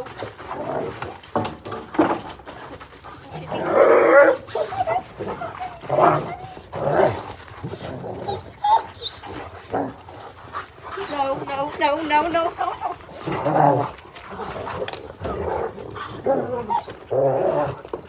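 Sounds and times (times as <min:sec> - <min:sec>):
dogs whining and barking: 0:02.2 - 0:18.0.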